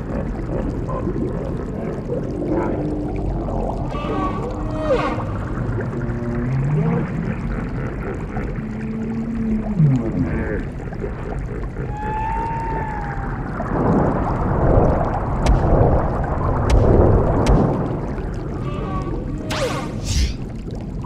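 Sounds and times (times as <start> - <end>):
low whale-like moans: 0.0 - 15.3, 17.8 - 21.0
rushing water: 0.0 - 21.0
steady water noise: 0.0 - 21.0.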